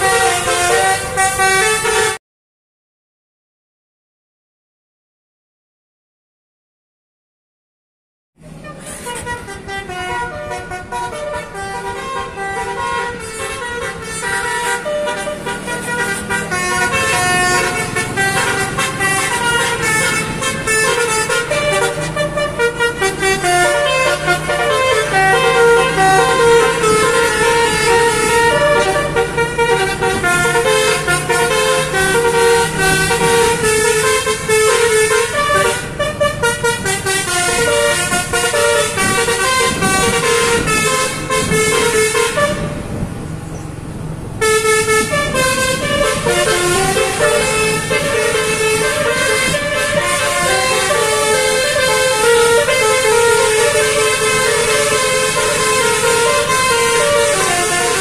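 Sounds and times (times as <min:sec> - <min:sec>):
multi-tone bus horn melody: 0:00.0 - 0:02.2, 0:08.4 - 0:43.2, 0:44.3 - 0:58.0.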